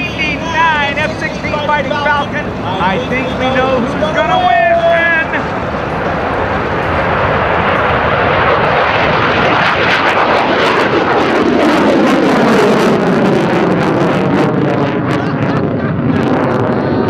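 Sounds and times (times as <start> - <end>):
jet engine rushing past: 0.0 - 17.0.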